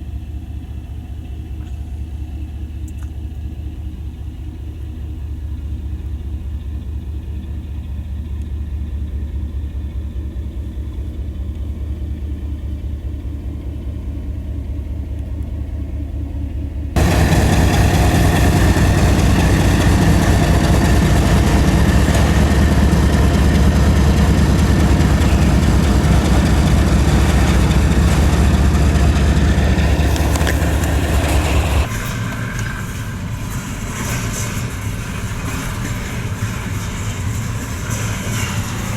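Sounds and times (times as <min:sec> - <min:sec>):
diesel locomotive engine rumbling: 0:00.0 - 0:38.9.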